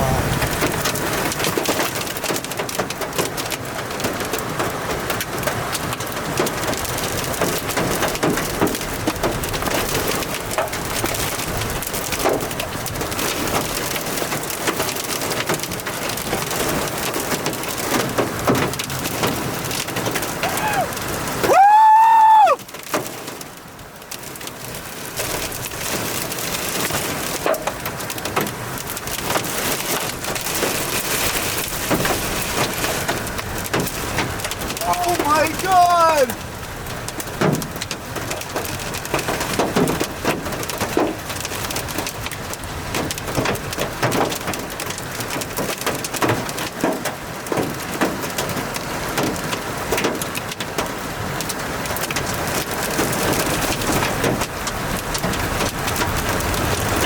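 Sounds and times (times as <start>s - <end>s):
heavy rain pelting: 0.0s - 57.0s.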